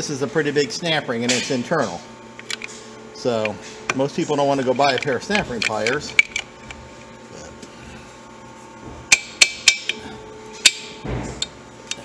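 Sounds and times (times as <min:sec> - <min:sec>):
hum of shop machines: 0:00.0 - 0:12.0.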